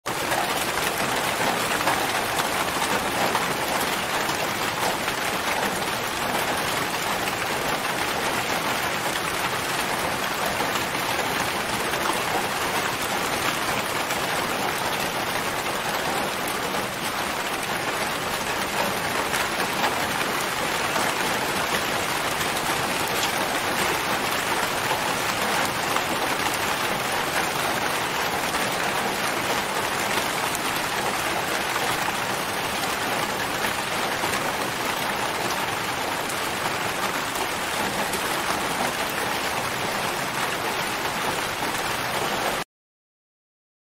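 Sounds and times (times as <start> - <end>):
rain falling on a tent: 0.1 - 42.7.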